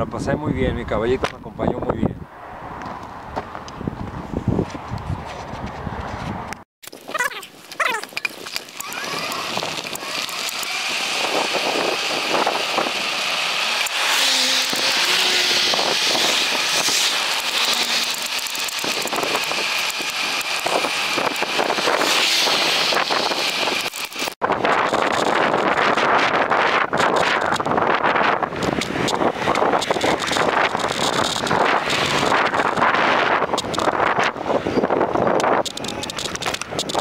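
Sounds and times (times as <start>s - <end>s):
wind on microphone: 0.0s - 37.0s
highway traffic: 1.0s - 37.0s.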